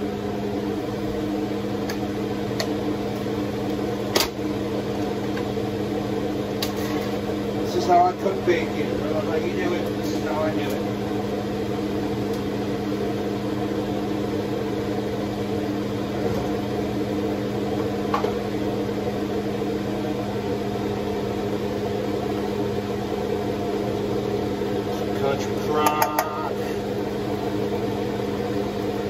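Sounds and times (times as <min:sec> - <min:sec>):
constant low hum: 0:00.0 - 0:29.0.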